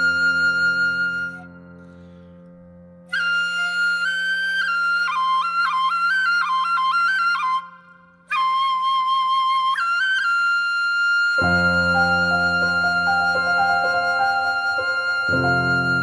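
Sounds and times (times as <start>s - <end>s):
bamboo flute solo melody: 0.0s - 2.0s, 3.1s - 16.0s.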